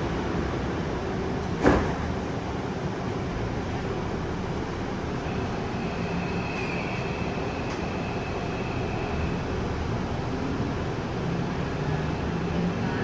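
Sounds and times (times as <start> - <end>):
subway wheels rumbling: 0.0 - 13.0.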